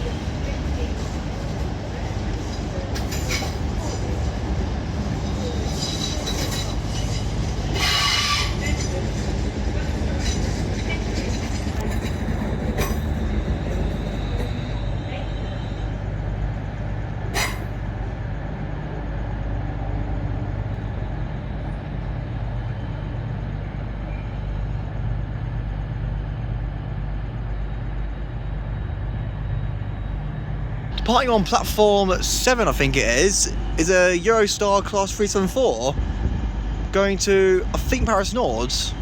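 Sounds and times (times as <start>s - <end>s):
train rumble and hum: 0.0s - 39.0s.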